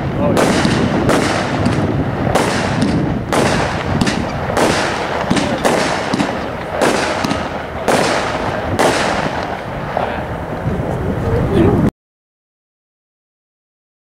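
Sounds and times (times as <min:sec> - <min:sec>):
firework bangs: 0:00.0 - 0:11.5
continuous noisy rumble: 0:00.0 - 0:11.9.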